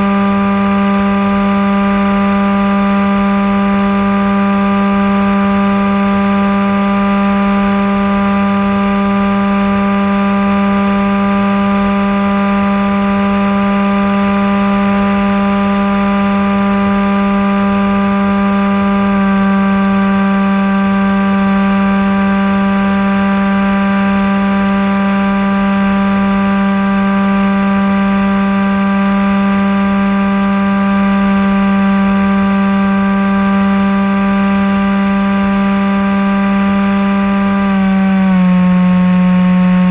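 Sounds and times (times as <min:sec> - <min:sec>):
model plane motor and propeller drone: 0:00.0 - 0:39.9.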